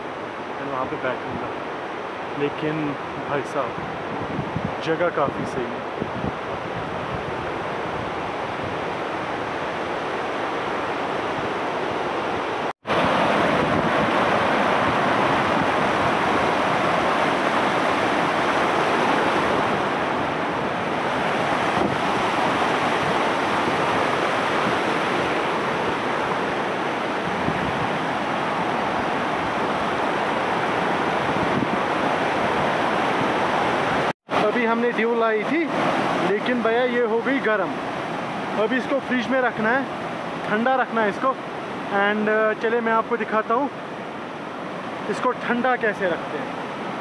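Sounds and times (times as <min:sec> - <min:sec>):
rushing stream water: 0:00.0 - 0:47.0.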